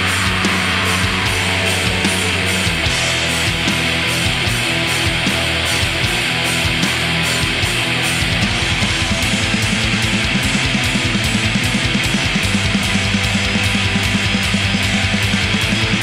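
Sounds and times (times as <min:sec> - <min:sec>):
distorted guitars: 0:00.0 - 0:16.0.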